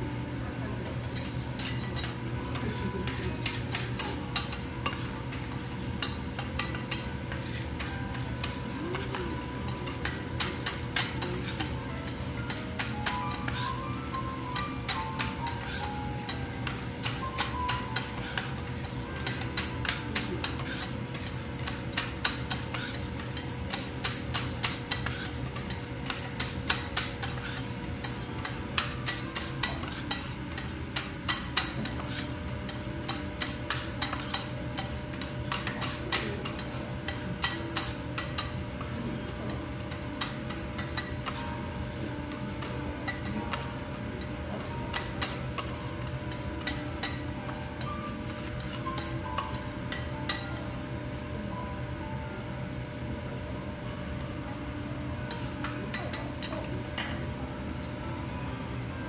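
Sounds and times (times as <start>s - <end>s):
spatulas clicking on steel griddle: 1.0s - 50.6s.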